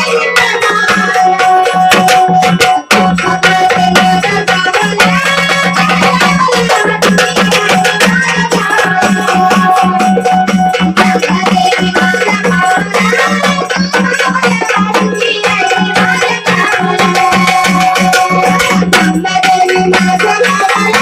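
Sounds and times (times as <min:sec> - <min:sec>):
jingling percussion: 0:00.0 - 0:21.0.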